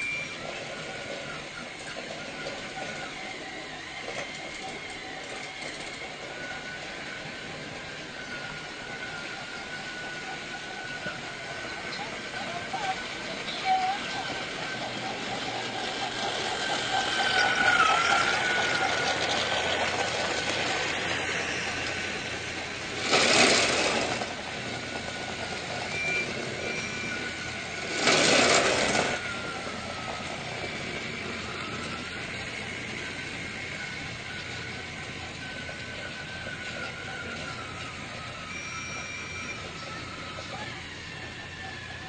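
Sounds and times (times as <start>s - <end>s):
toy train motor whining: 0.0s - 42.0s.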